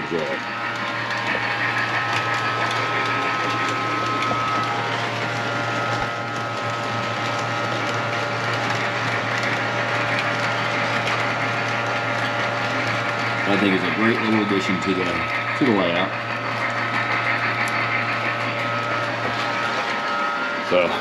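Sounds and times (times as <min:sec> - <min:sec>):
constant low hum: 0:00.0 - 0:21.0
model train motor whirring: 0:00.0 - 0:21.0.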